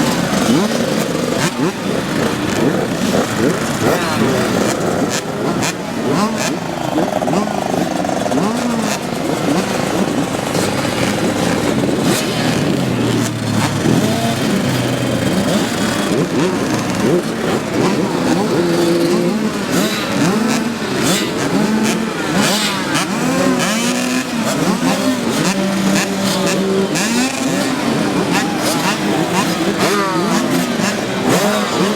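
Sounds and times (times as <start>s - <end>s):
motocross bikes revving: 0.0s - 31.9s.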